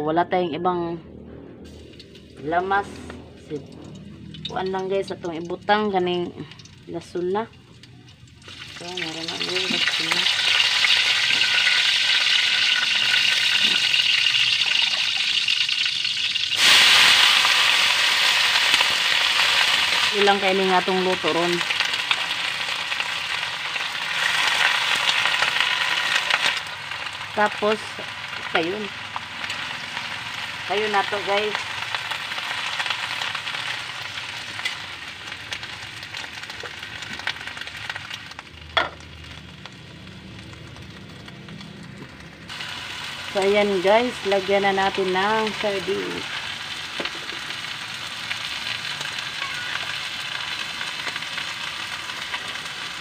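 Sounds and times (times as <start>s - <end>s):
oil sizzling in a wok: 1.7s - 53.0s.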